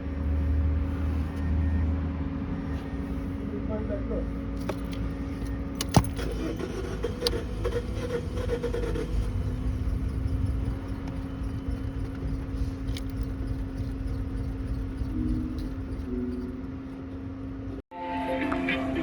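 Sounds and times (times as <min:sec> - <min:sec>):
car engine rumble: 0:00.0 - 0:17.8
constant hum: 0:00.0 - 0:17.8.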